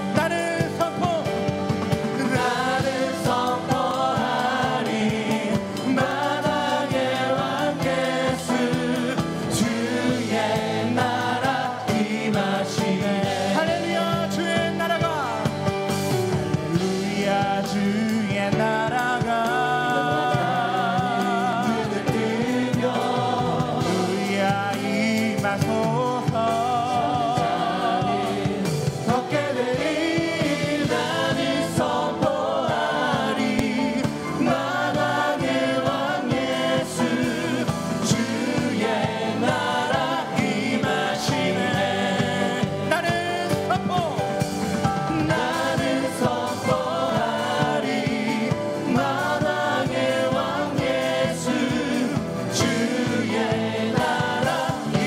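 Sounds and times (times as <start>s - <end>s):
group singing praise song: 0.0s - 55.0s.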